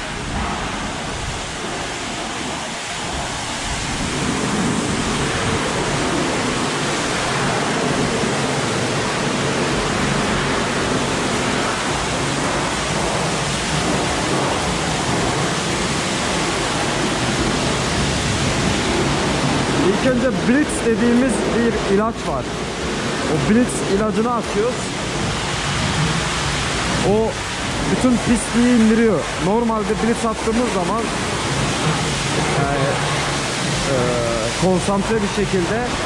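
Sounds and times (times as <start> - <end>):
high-pressure water spray hiss: 0.0 - 36.0.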